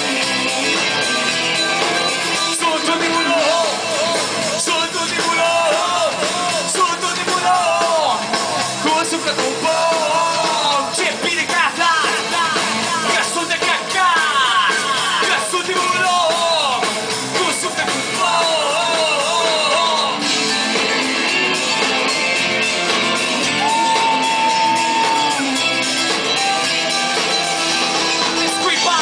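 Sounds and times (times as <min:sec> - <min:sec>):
man singing lead: 0:00.0 - 0:20.6, 0:22.9 - 0:29.0
live rock band playing: 0:00.0 - 0:29.0.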